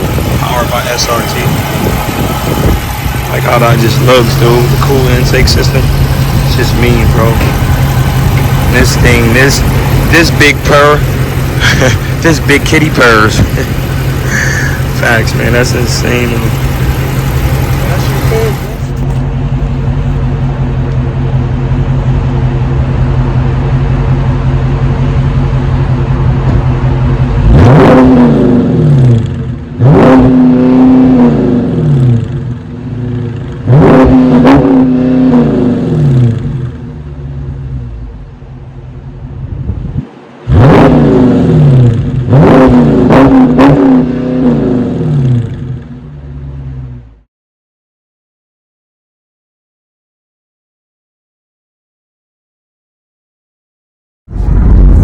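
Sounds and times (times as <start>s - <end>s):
car engine idling and revving: 0.0s - 47.3s, 54.3s - 55.0s.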